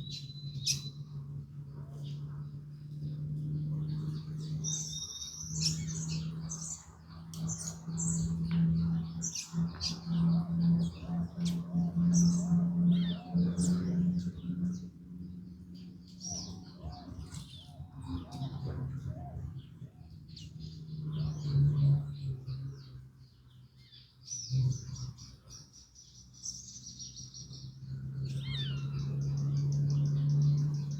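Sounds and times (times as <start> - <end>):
small birds chirping: 0.0 - 30.9
steady low hum: 0.0 - 30.9.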